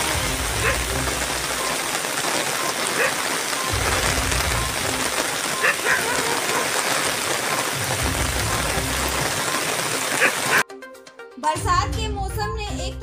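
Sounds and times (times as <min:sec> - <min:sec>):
rain falling on field: 0:00.0 - 0:10.6.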